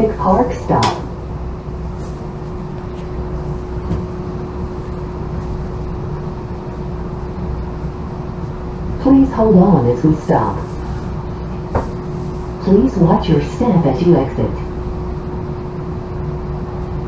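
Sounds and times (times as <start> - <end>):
constant hum: 0.0 - 17.0
streetcar rumble: 0.0 - 17.0.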